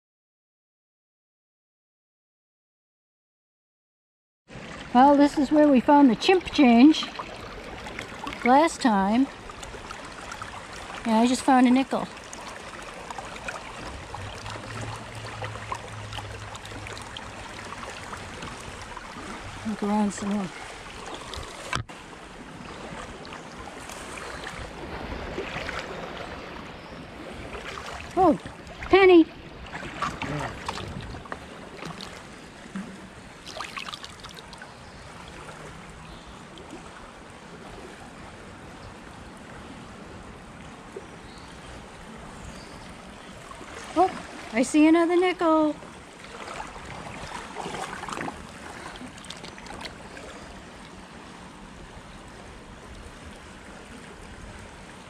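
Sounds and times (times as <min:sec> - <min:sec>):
river water trickling: 0:04.5 - 0:55.0.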